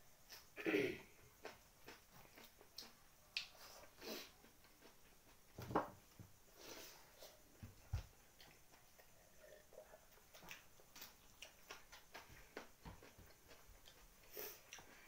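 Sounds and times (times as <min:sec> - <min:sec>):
people chewing and lip smacking: 0:01.2 - 0:06.2, 0:07.1 - 0:15.0.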